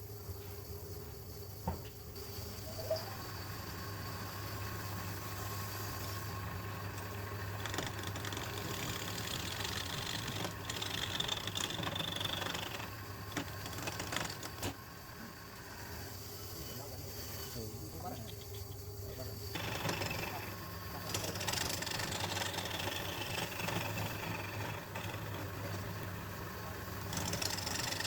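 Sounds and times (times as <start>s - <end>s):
wood lathe motor hum: 2.2s - 28.0s.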